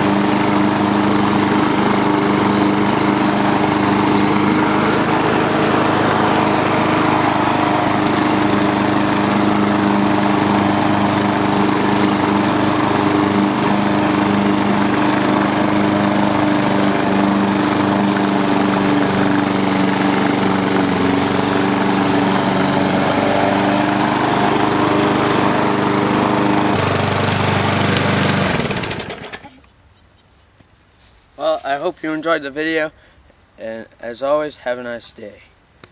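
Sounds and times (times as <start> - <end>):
lawn mower engine running: 0.0 - 29.5.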